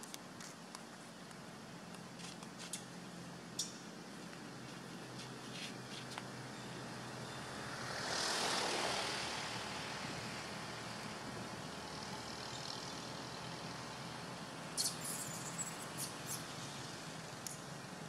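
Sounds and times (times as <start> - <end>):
faint outdoor background noise: 0.0 - 18.0.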